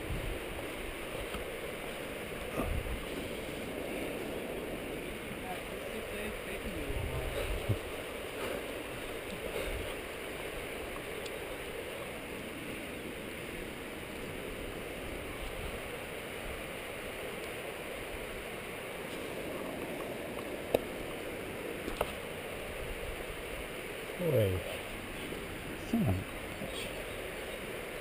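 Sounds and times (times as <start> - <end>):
wind rushing on camera: 0.0 - 28.0.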